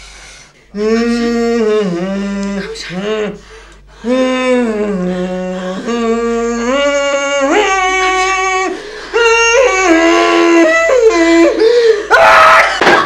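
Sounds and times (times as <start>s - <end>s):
person singing long held notes: 0.7s - 12.1s.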